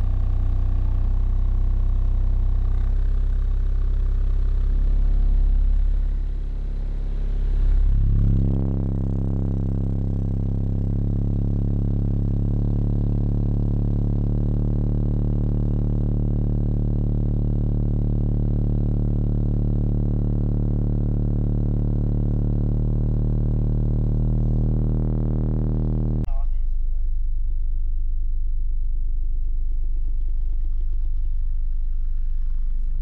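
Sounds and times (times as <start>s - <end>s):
loud bass test tones: 0.0s - 33.0s.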